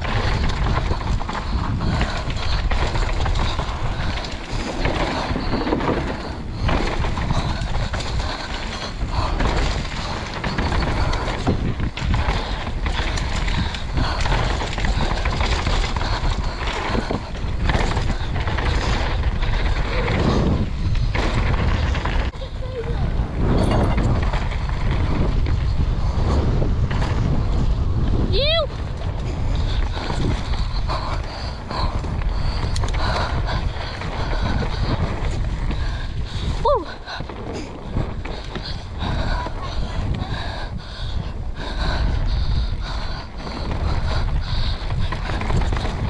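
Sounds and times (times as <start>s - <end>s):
tyres rolling over dirt: 0.0s - 40.2s
bike chain rattling: 0.0s - 46.0s
wind rumbling on microphone: 0.0s - 46.0s.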